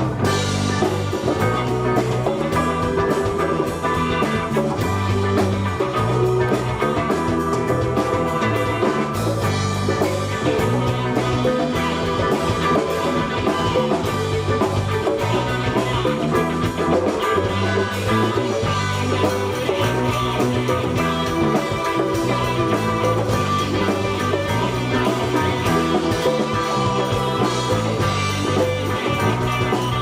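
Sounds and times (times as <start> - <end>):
bass guitar: 0.0 - 30.0
drum kit beat: 0.0 - 30.0
electric guitar: 0.0 - 30.0.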